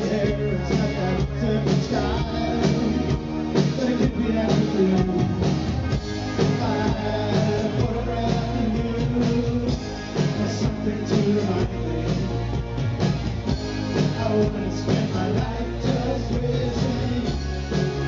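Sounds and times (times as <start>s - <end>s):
man singing: 0.0s - 5.7s, 6.3s - 12.5s, 14.0s - 18.0s
new wave band playing live: 0.0s - 18.0s
pulsing bass line: 0.0s - 18.0s.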